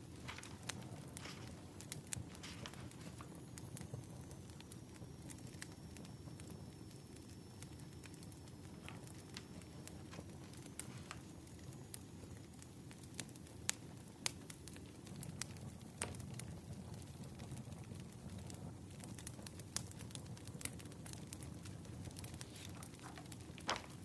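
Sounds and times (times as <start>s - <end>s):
wood fire crackling: 0.0s - 24.0s
pops and snaps of fire: 0.1s - 24.0s.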